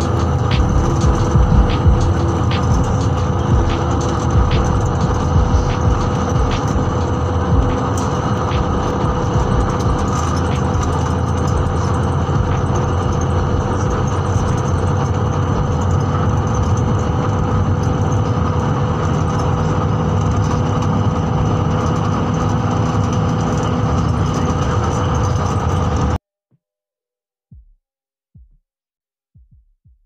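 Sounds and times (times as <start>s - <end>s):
faint steady whine: 0.0s - 26.1s
vehicle interior rumble: 0.0s - 26.2s.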